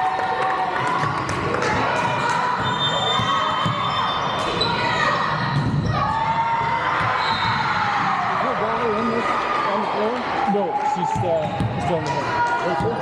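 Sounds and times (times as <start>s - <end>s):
voices echoing in a hall: 0.0s - 13.0s.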